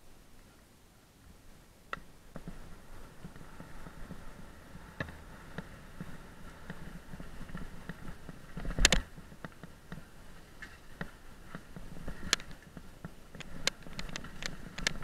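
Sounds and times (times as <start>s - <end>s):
bike rattling over rough trail: 1.9s - 15.0s.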